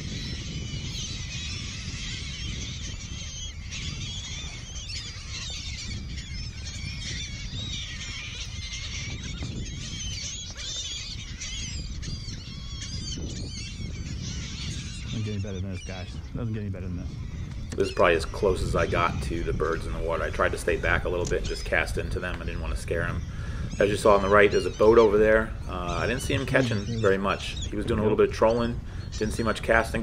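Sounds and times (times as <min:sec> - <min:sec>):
gulls calling: 0:00.0 - 0:30.0.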